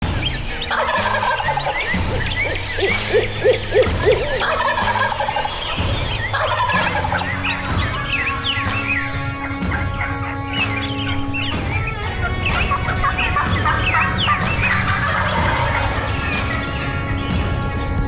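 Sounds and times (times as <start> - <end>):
turkey gobbling: 0.0 - 17.7
songbirds chirping: 0.0 - 18.0.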